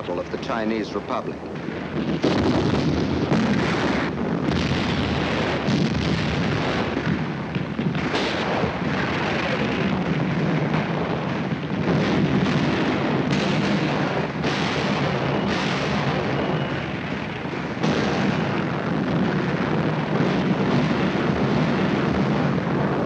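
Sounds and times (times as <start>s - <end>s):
artillery blasts: 0.0s - 23.0s
gunfire: 1.6s - 23.0s.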